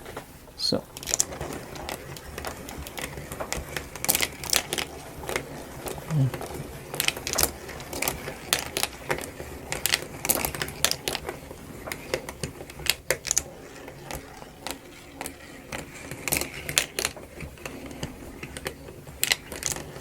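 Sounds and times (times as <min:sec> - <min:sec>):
ball bearings clicking on wooden tracks: 0:00.0 - 0:20.0.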